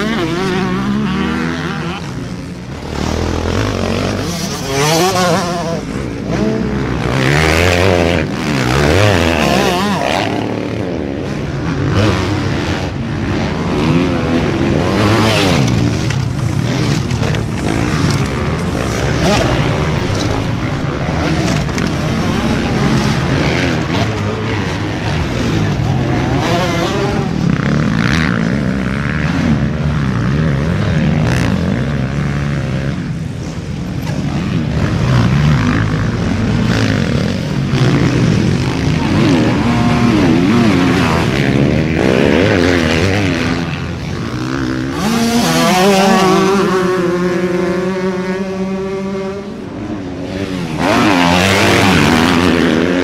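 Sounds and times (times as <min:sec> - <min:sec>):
motocross bikes revving: 0:00.0 - 0:53.0.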